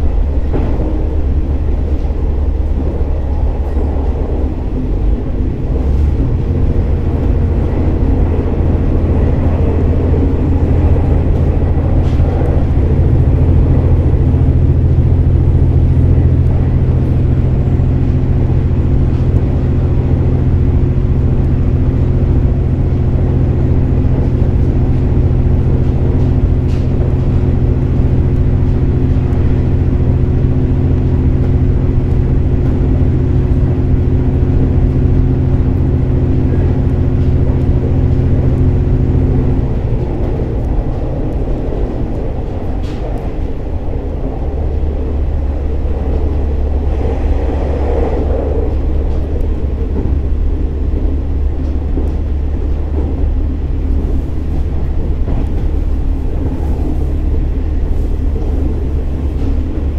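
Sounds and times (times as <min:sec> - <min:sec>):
diesel engine drone: 0:00.0 - 0:59.9
faint clicks from rails: 0:00.0 - 0:59.9.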